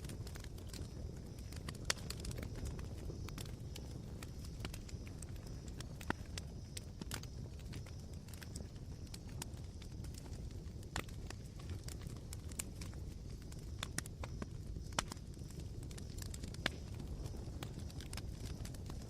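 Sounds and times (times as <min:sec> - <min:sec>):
campfire coals crackling: 0:00.0 - 0:19.0.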